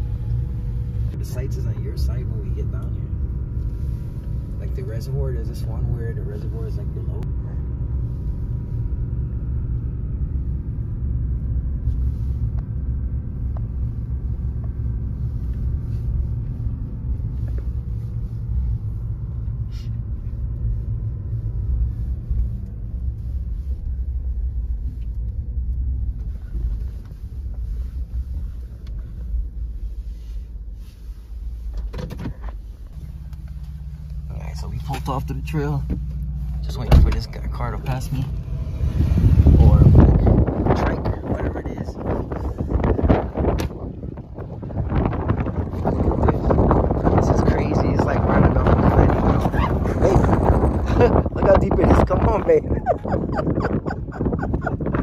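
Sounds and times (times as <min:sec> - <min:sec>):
road and engine rumble: 0:00.0 - 0:55.0.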